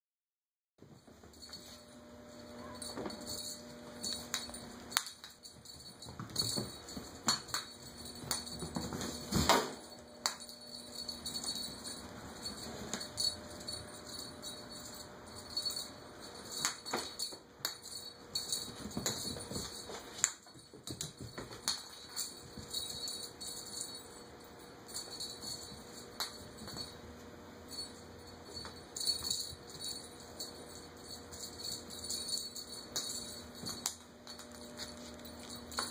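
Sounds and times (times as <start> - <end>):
small bell jingling: 1.3 - 35.9.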